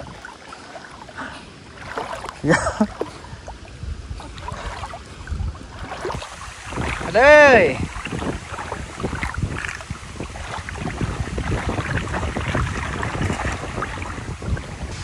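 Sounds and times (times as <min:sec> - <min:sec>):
water splashing and sloshing: 0:00.0 - 0:15.0
wind rumbling on microphone: 0:00.0 - 0:15.0.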